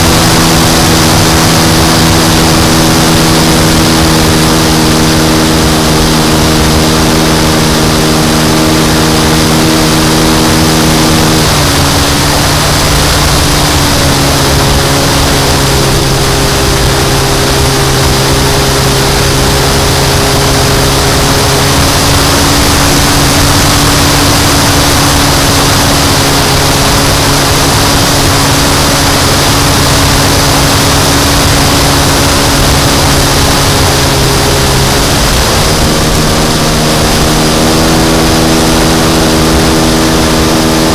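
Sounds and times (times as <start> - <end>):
model airplane engine: 0.0 - 40.9
wind noise: 0.0 - 40.9.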